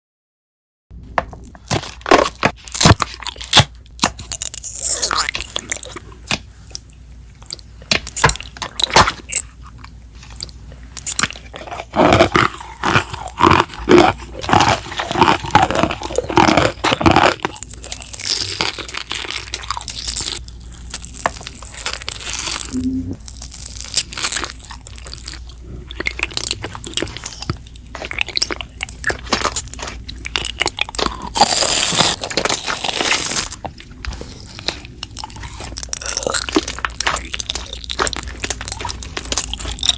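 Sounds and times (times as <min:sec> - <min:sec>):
crunchy slime crackling: 0:01.2 - 0:39.9.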